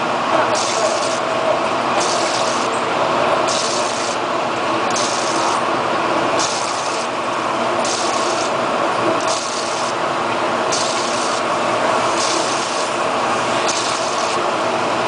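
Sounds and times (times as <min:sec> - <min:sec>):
electric discharge machine running: 0:00.0 - 0:15.0.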